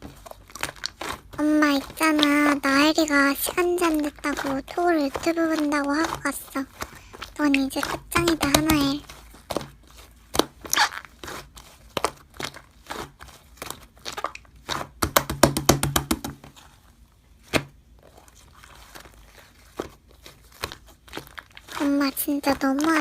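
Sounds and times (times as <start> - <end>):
slime crackling and popping: 0.0 - 16.4, 17.4 - 23.0.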